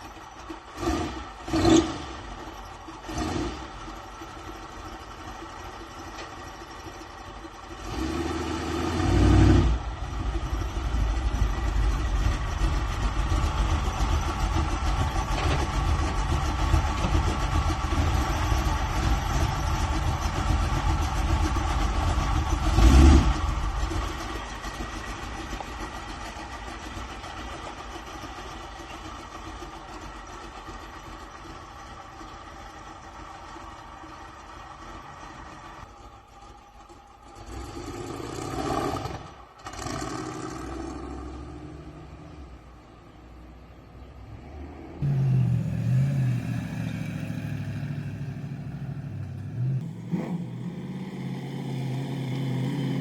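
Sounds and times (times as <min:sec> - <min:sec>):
van engine starting and idling: 0:00.0 - 0:41.2, 0:45.0 - 0:53.0.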